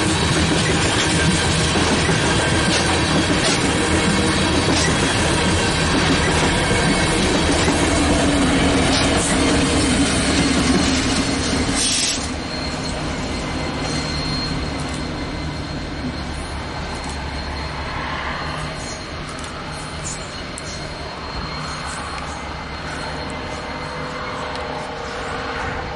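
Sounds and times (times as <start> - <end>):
diesel locomotive engine hum: 0.0 - 25.9
high wheel squeal: 0.0 - 25.9
train cars rumbling and clattering: 0.0 - 25.9.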